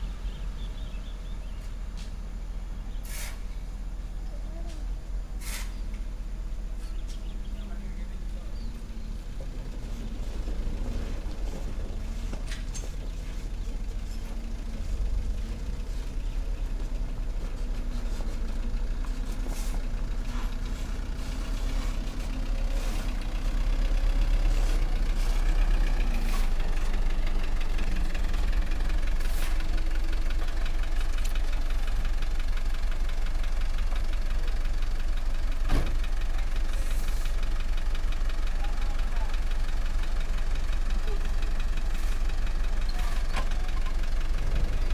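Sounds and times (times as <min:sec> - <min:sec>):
diesel truck engine running: 0:00.0 - 0:44.9.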